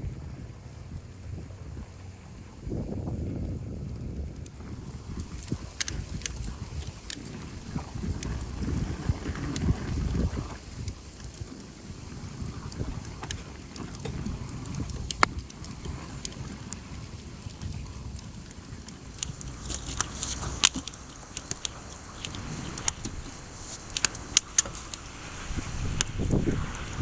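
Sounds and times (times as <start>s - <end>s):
wind buffeting microphone: 0.0s - 20.7s, 21.4s - 27.0s
wood fire crackling and popping: 0.0s - 27.0s.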